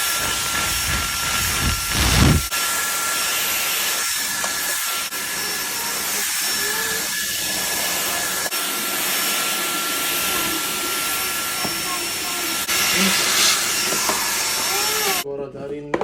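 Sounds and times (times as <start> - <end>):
vacuum cleaner running: 0.0 - 15.2.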